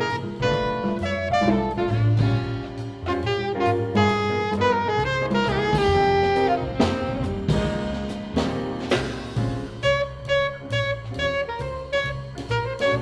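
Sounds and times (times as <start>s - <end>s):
alto saxophone melody: 0.0s - 9.0s, 9.6s - 13.0s
double bass: 0.0s - 13.0s
drum kit: 0.0s - 13.0s
piano: 0.0s - 13.0s.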